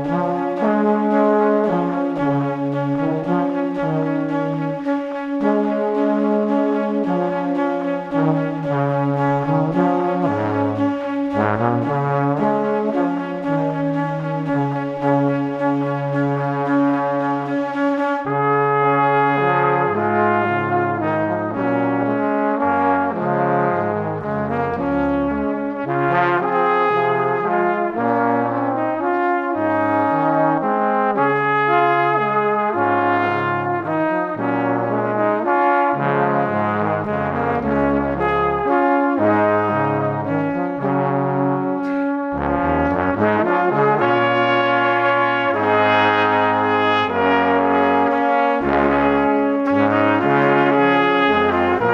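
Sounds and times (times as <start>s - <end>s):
lively brass music: 0.0s - 51.9s.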